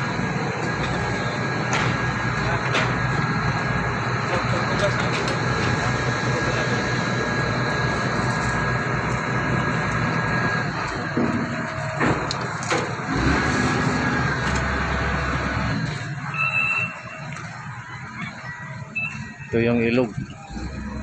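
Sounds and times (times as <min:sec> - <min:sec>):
engine humming: 0:00.0 - 0:21.0.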